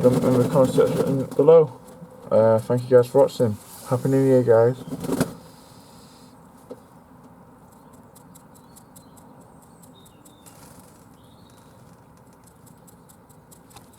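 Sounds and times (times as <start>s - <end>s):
doves ticking and scratching: 0.0s - 6.0s, 6.6s - 13.9s.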